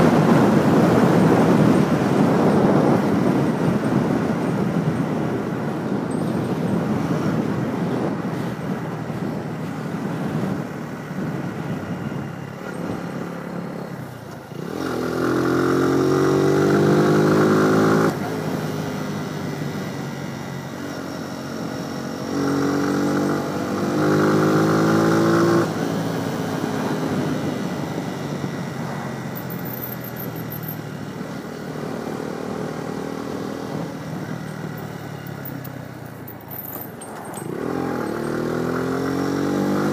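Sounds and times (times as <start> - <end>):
motorcycle engine accelerating: 0.0 - 39.9
wind rushing on microphone: 0.0 - 39.9.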